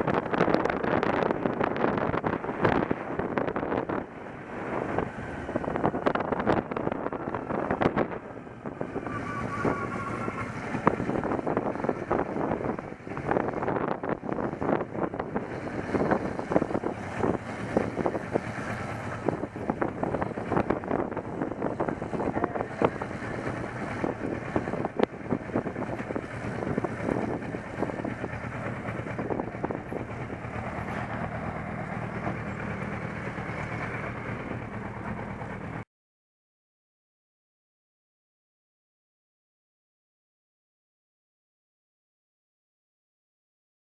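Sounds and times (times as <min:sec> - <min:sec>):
gusty wind: 0:00.0 - 0:35.8
motorcycle engine running: 0:00.0 - 0:35.8
road noise: 0:00.0 - 0:35.9.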